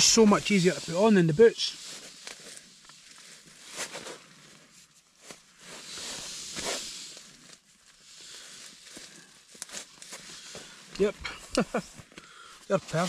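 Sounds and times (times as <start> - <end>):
rustling of nylon fabric: 0.0 - 13.0.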